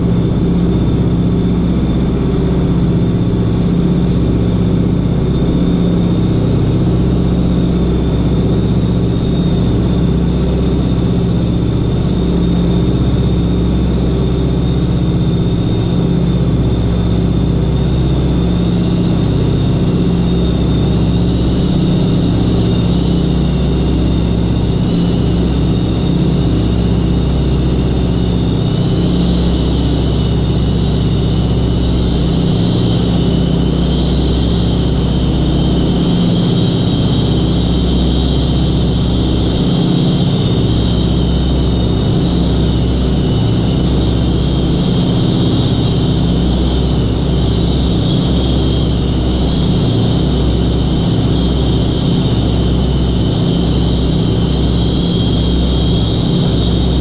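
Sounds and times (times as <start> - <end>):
propeller engines droning: 0.0 - 57.0
slightly lower whine: 0.0 - 57.0
thin high whine: 0.0 - 57.0.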